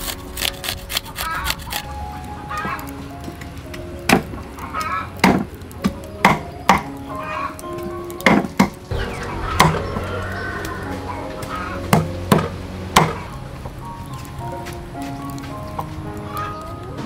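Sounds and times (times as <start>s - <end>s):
soft instrumental music: 0.0s - 17.0s.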